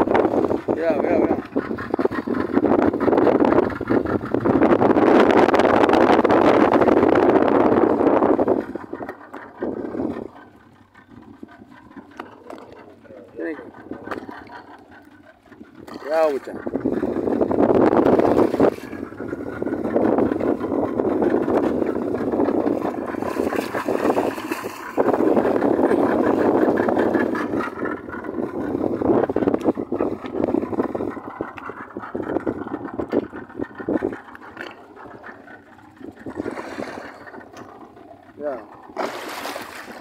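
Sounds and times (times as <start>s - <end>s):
water splashing against boat hull: 0.0s - 40.0s.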